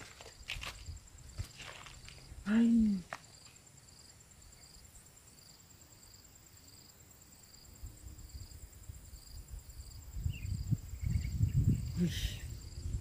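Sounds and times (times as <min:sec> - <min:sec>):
insects trilling: 0:00.0 - 0:13.0
short insect chirps: 0:00.0 - 0:13.0.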